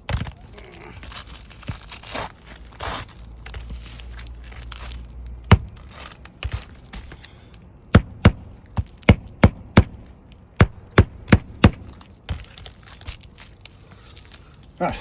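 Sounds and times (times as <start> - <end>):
shingle rustling: 0.0 - 14.8.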